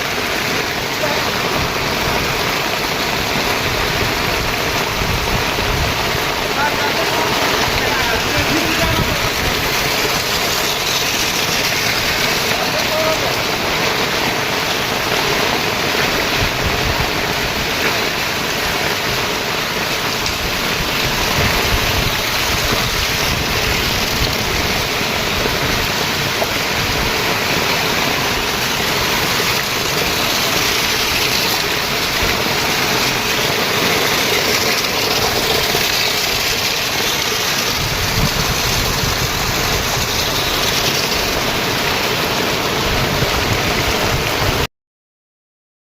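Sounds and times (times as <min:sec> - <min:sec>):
floodwater rushing: 0:00.0 - 0:44.7.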